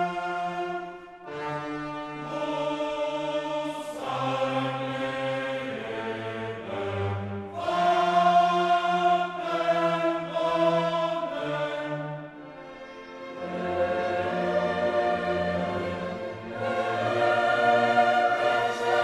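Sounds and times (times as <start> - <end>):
choir and orchestra chords: 0.0 - 19.0.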